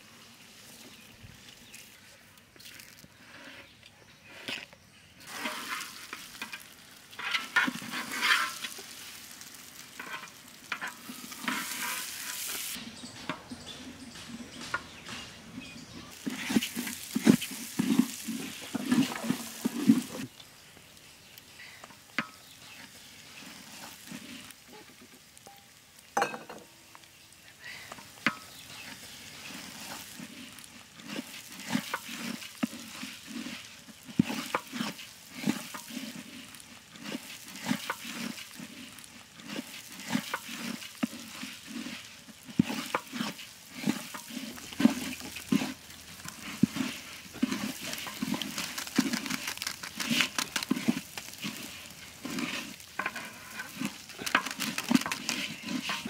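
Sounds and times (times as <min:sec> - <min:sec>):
wooden spatula stirring rice in pot: 0:05.2 - 0:20.4, 0:21.6 - 0:25.8, 0:27.1 - 0:56.0.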